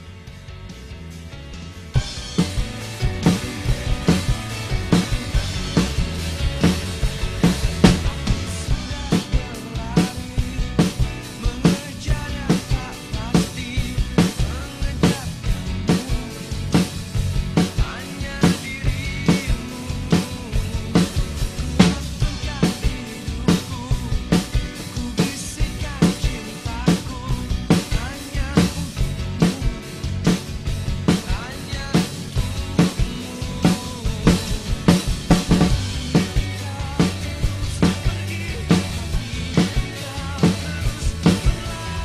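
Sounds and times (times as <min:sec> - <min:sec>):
drum kit playing rock beat: 0:00.0 - 0:42.0
pop-rock backing track: 0:00.0 - 0:42.0.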